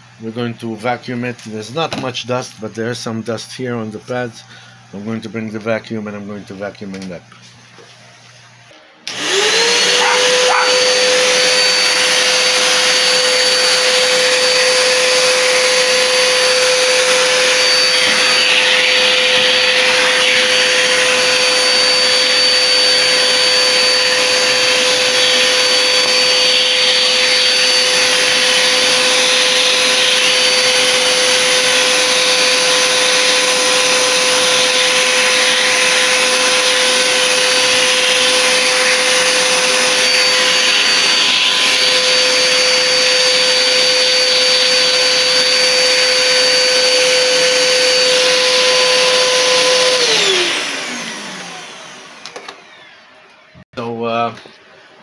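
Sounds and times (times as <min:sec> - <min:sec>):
vacuum cleaner running: 0:00.0 - 0:53.7
motor spinning down: 0:09.1 - 0:53.6.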